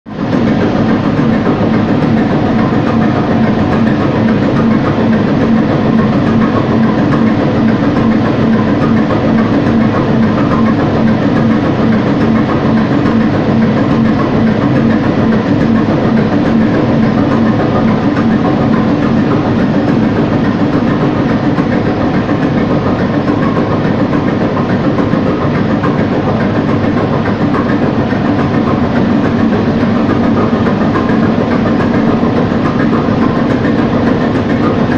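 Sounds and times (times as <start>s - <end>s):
diesel engine running steadily: 0.1s - 34.9s.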